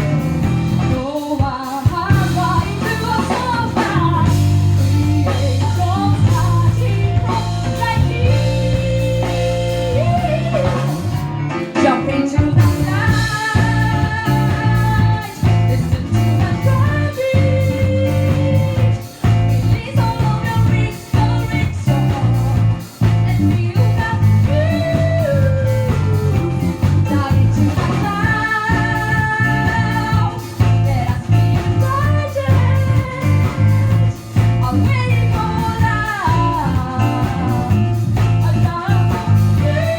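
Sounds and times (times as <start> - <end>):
steady drum beat: 0.0 - 11.7, 12.4 - 39.9
bass guitar: 0.0 - 39.9
electric guitar: 0.0 - 39.9.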